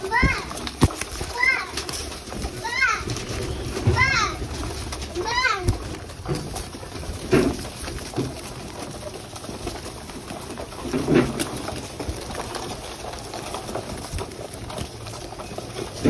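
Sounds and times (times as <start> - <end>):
beaks pecking at grain: 0.0 - 16.0
pigeon wings flapping: 0.0 - 16.0
pigeons cooing: 0.0 - 16.0.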